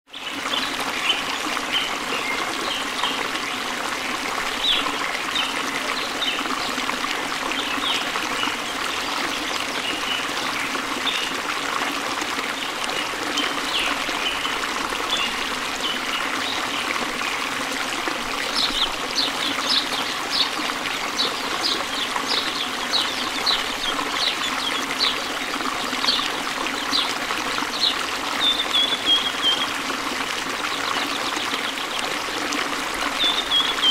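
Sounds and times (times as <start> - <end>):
water trickling: 0.1 - 33.9.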